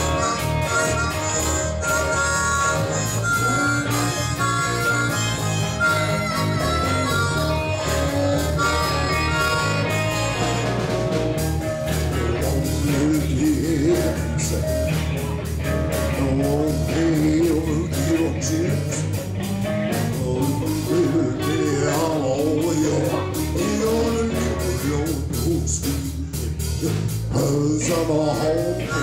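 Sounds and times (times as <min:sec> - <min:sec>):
drums: 0:00.0 - 0:29.0
electric guitars: 0:00.0 - 0:29.0
harmonica lead line: 0:00.0 - 0:29.0.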